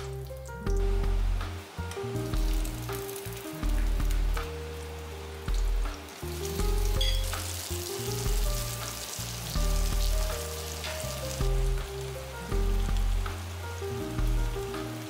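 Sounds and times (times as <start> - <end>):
music with repeating bass line: 0.0 - 3.0, 3.6 - 4.7, 5.5 - 8.8, 9.4 - 10.5, 11.2 - 15.0
prawns sizzling in oil: 0.0 - 15.0.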